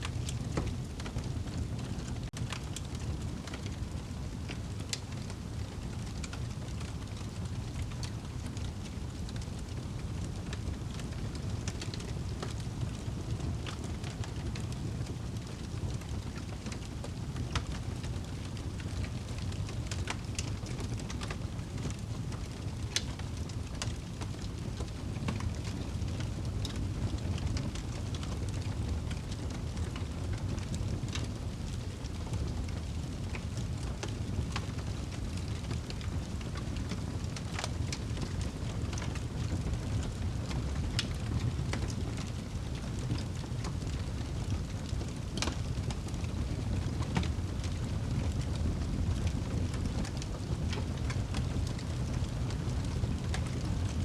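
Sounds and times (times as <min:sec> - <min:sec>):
low rumble of flame: 0:00.0 - 0:54.0
wood fire crackling: 0:00.0 - 0:54.0.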